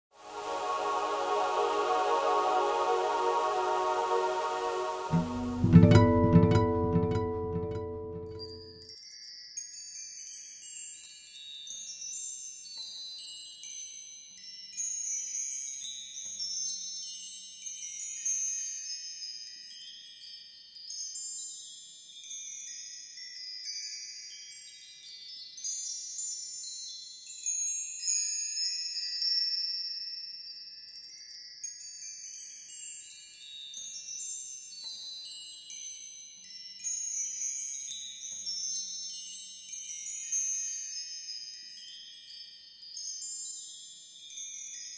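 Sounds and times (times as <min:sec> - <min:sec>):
wind chimes tinkling: 0:05.8 - 0:44.9.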